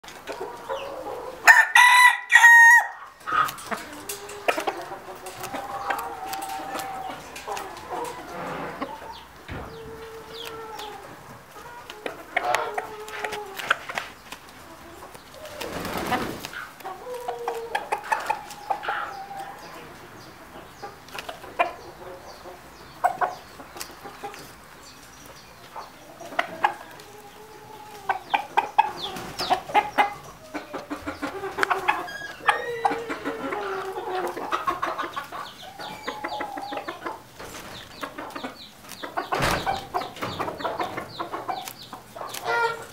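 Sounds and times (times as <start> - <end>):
poultry clucking: 0.0 - 42.9
beaks pecking at leaves: 3.0 - 22.1, 23.0 - 42.9.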